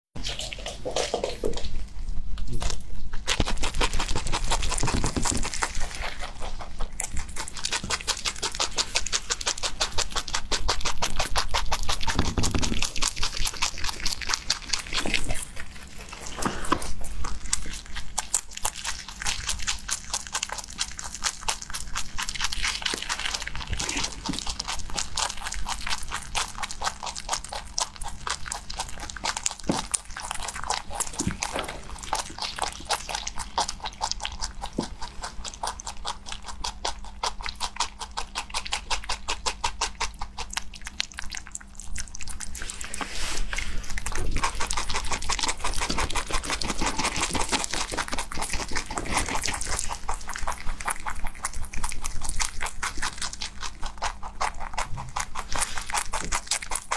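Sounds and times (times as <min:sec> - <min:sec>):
rabbit chewing greens: 0:00.1 - 0:56.9.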